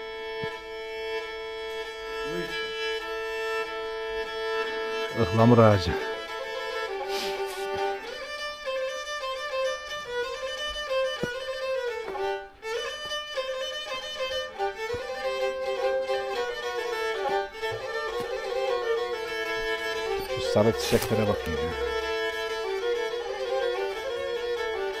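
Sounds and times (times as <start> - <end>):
bowed fiddle melody: 0.0 - 25.0.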